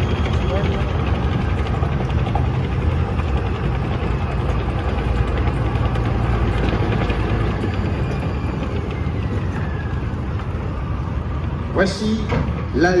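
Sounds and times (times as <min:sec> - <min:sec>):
heavy low engine rumble: 0:00.0 - 0:13.0
steel tracks clattering: 0:00.0 - 0:13.0.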